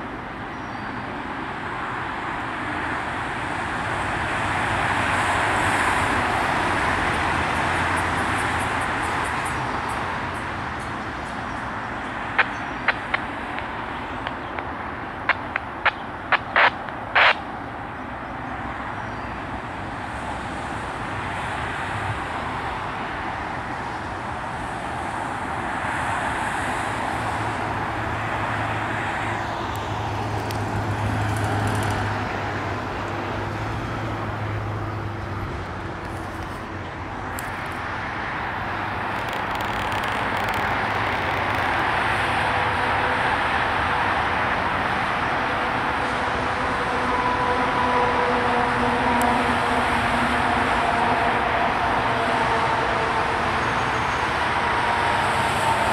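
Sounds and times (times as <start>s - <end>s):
road traffic: 0.0s - 55.9s.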